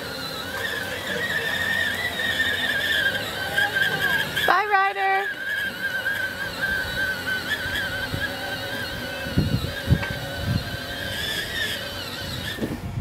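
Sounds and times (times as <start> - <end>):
toy truck electric motor whine: 0.0 - 13.0.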